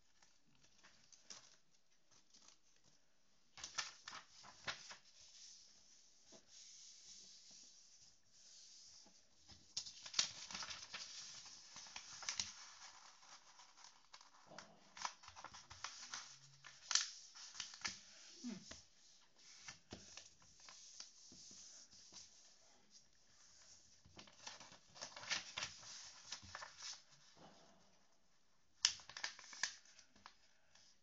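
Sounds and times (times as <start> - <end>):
paper being folded and creased: 0.0 - 31.0.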